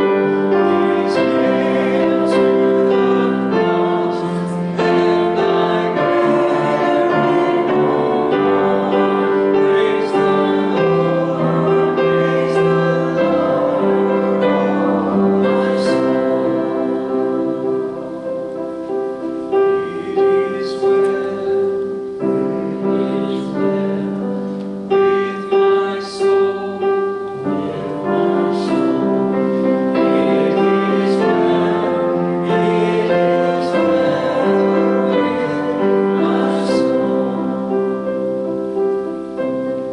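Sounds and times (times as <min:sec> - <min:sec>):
slow piano music: 0:00.0 - 0:39.9.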